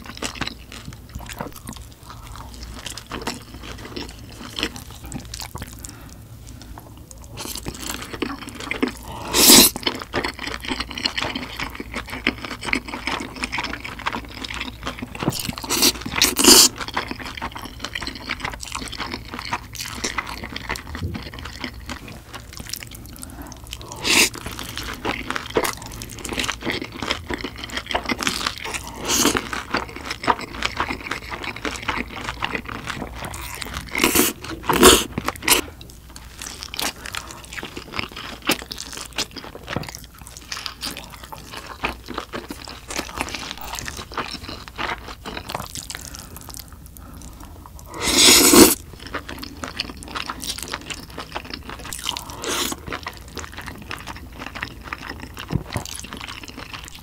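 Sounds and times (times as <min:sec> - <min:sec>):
person chewing noodles: 0:00.0 - 0:57.0.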